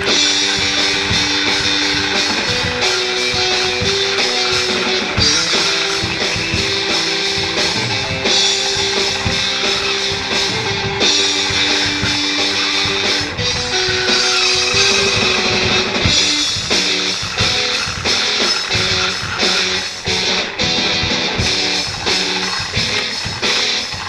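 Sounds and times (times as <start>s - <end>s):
band music with guitar and drums: 0.0s - 24.0s.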